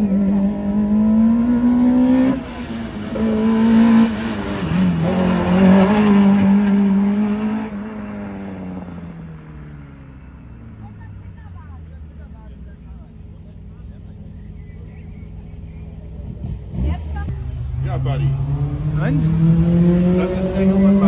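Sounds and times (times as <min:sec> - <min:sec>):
race car engine revving: 0:00.0 - 0:11.0, 0:12.1 - 0:21.0.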